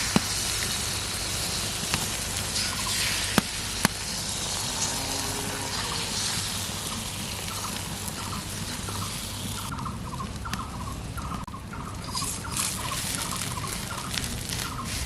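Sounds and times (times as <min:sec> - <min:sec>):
egg sizzling in hot oil: 0:00.0 - 0:10.7, 0:11.3 - 0:15.0.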